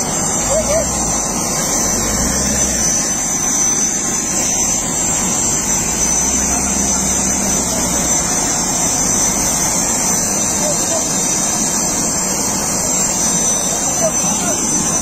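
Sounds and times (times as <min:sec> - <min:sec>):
faint voices: 0:00.0 - 0:15.0
jet turbine whining: 0:00.0 - 0:15.0.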